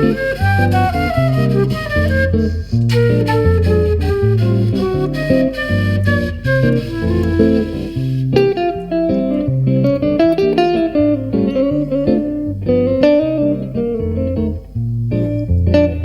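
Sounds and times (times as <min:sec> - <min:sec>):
solo jazz guitar: 0:00.0 - 0:16.0.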